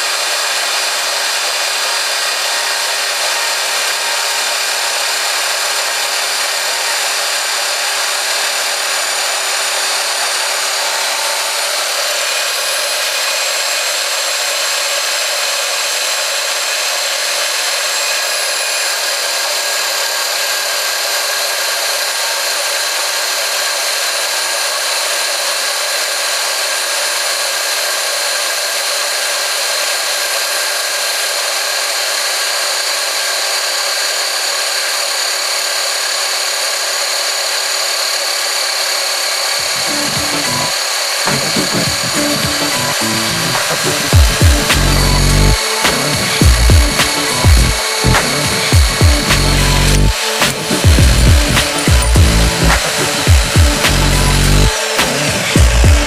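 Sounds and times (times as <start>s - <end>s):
band saw cutting pipe: 0.0s - 56.0s.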